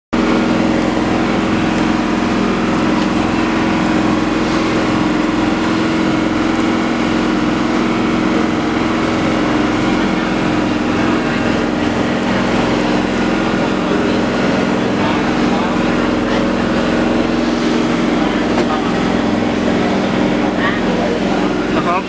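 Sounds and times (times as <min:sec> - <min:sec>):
water noise: 0:00.1 - 0:22.0
ship engines droning: 0:00.2 - 0:22.0.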